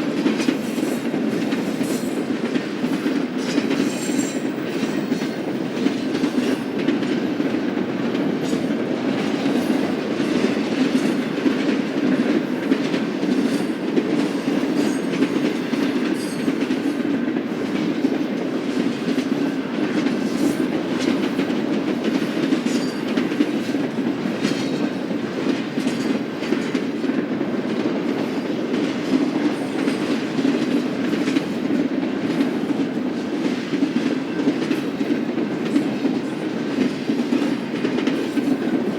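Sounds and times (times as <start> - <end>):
freight train wheels clicking: 0.0 - 38.9.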